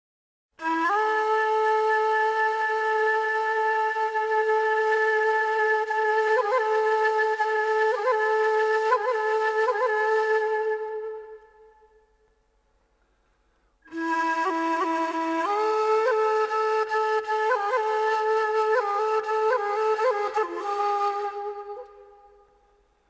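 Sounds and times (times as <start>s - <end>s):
flute holding long note: 0.6s - 12.1s, 13.9s - 22.6s.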